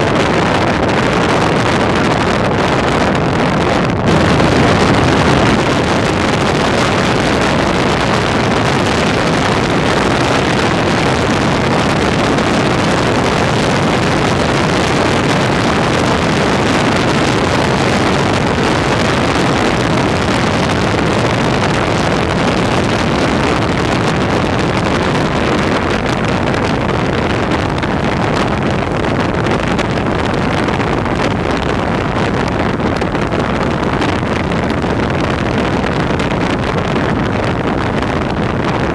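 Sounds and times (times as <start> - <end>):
vehicle and road noise: 0.0 - 38.9
wind on microphone: 0.0 - 38.9.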